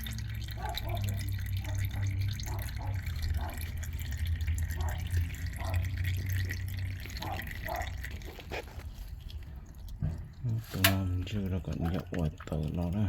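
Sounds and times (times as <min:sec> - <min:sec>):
oil dripping into a pan: 0:00.0 - 0:13.0.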